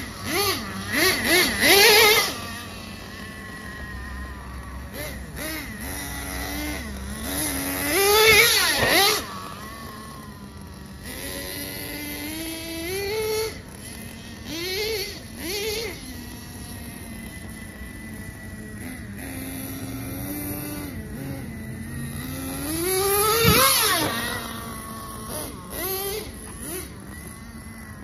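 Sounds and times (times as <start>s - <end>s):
small engine revving: 0.0s - 28.0s.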